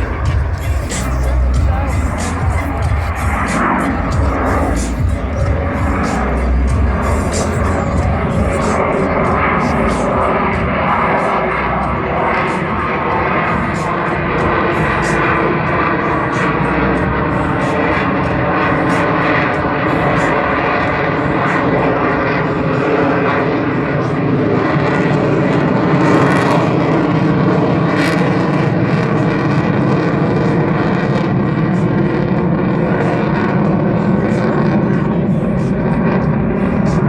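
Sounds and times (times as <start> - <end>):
jet engines roaring with high whine: 0.0 - 37.0.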